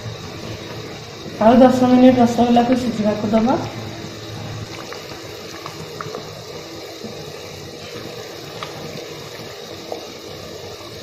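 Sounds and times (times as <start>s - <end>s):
syrup boiling and bubbling: 0.0s - 11.0s.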